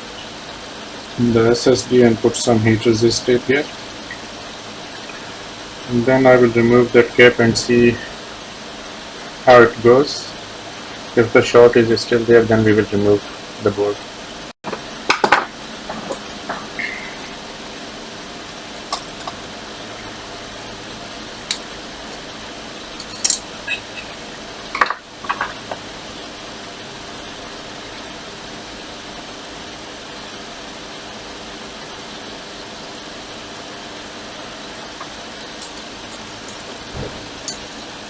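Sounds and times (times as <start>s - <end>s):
steady fan-like hum: 0.0s - 38.0s.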